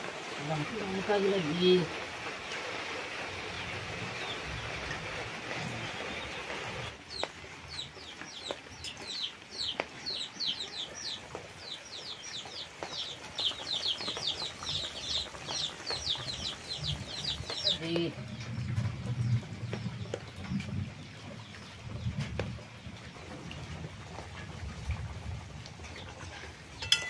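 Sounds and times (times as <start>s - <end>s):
curry bubbling and sizzling: 0.0s - 27.0s
birds chirping: 0.4s - 25.1s.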